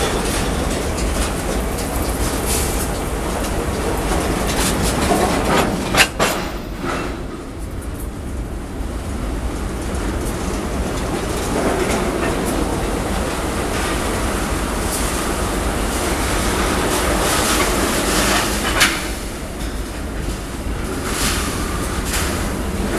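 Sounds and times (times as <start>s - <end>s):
freight train rumbling past: 0.0s - 22.9s
wheels clacking over rail joints: 0.0s - 22.9s.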